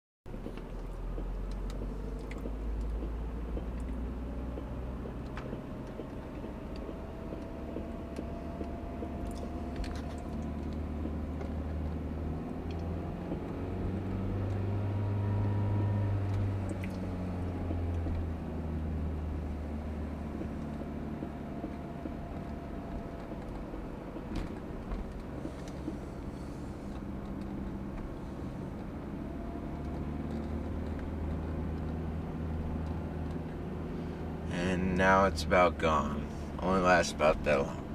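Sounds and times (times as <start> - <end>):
car engine and road hum: 0.3 - 37.9.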